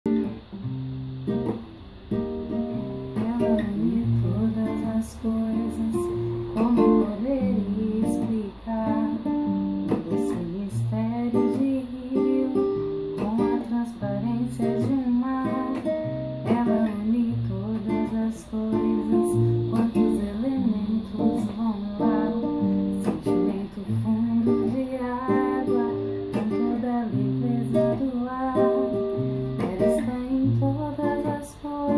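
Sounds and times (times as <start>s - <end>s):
acoustic guitar playing: 0.0s - 31.9s.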